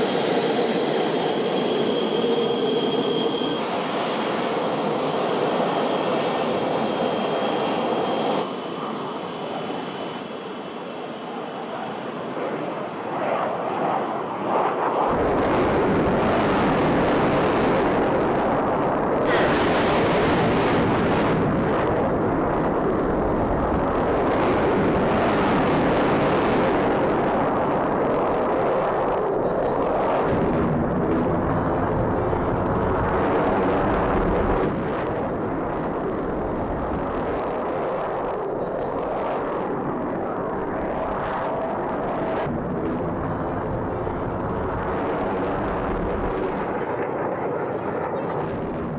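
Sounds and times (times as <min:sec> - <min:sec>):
jet engine roar: 0:00.0 - 0:48.9.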